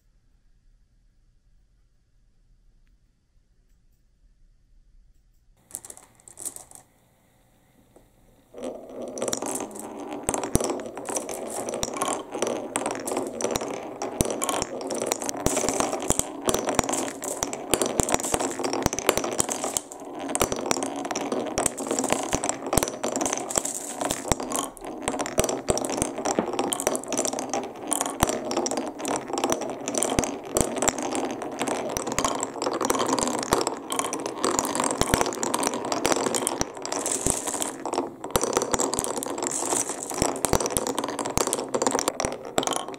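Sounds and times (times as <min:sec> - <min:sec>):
balls rattling down wooden run: 0:05.6 - 0:06.9, 0:08.0 - 0:42.9.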